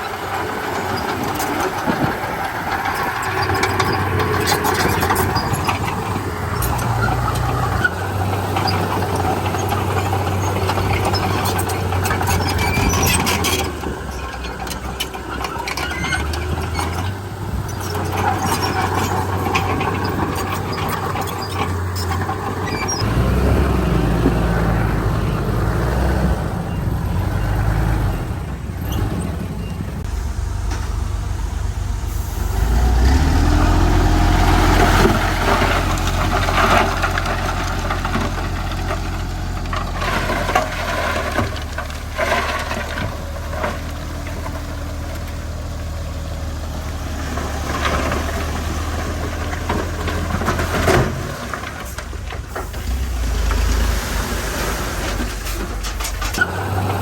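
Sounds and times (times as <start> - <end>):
diesel machinery engine revving: 0.0 - 57.0.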